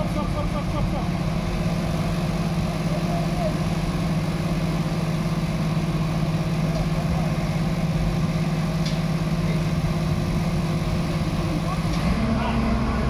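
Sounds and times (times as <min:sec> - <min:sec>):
crane diesel engine running: 0:00.0 - 0:13.0.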